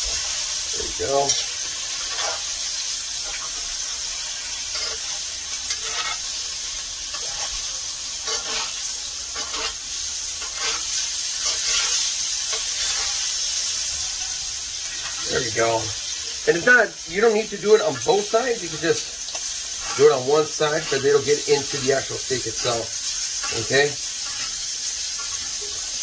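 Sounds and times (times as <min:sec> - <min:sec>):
steaks sizzling in butter: 0:00.0 - 0:26.0
spoon scraping a pan: 0:01.2 - 0:16.2, 0:17.7 - 0:26.0.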